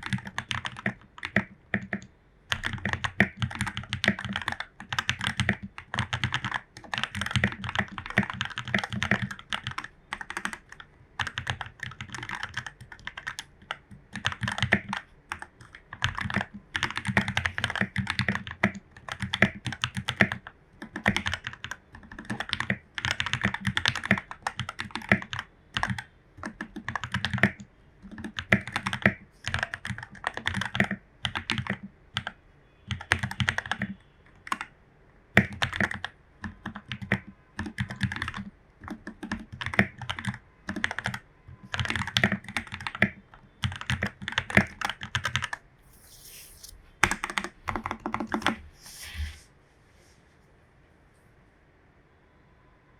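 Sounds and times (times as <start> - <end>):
mechanical keyboard typing: 0.0 - 34.7, 35.4 - 46.2, 47.0 - 48.6.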